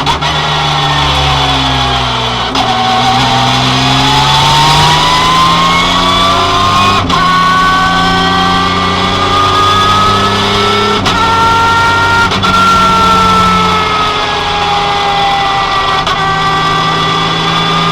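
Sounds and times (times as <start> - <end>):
rally car engine accelerating: 0.0 - 17.9.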